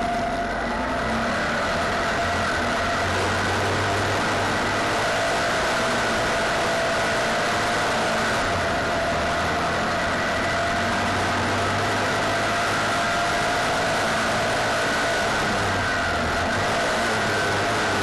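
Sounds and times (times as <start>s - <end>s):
racing car engine at high revs: 0.0s - 18.0s
wind and track noise: 0.0s - 18.0s.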